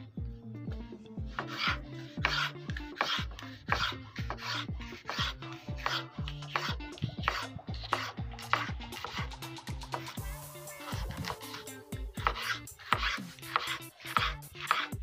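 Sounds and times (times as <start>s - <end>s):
background music with beat: 0.0s - 15.0s
knife slicing on cutting board: 1.3s - 9.4s, 10.8s - 15.0s.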